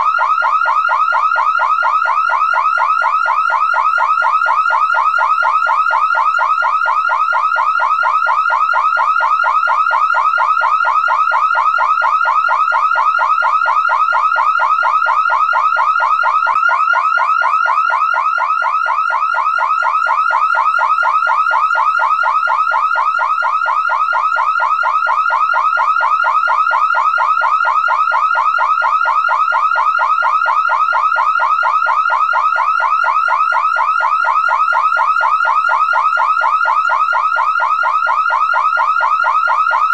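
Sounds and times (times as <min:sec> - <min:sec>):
car alarm chirping: 0:00.0 - 0:39.9.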